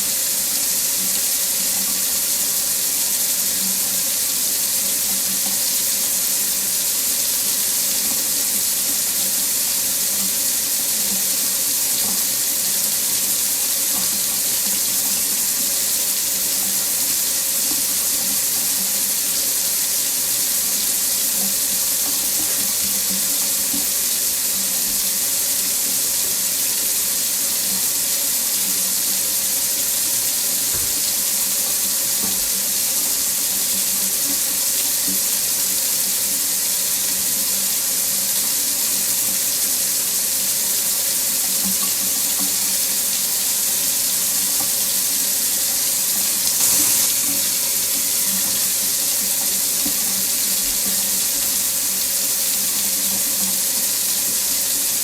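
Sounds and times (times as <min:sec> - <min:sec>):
faucet water running into sink: 0:00.0 - 0:55.0.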